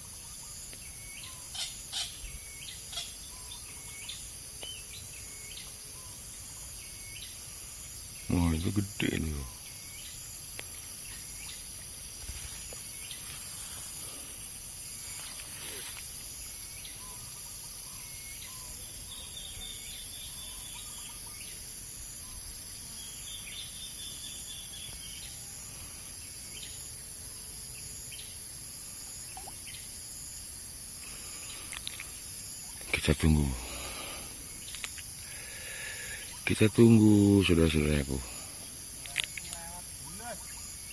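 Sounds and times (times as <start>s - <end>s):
high insect drone: 0.0s - 40.9s.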